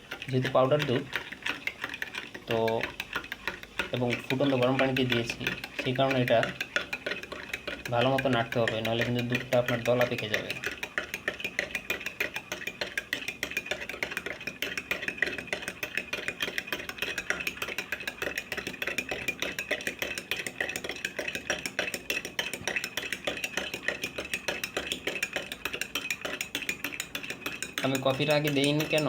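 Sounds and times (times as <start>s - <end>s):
spoon clinking in a cup: 0.1s - 29.0s.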